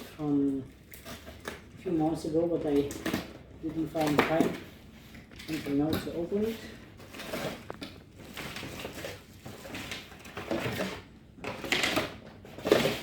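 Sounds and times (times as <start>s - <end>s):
cardboard box rustling and scraping: 0.8s - 13.0s.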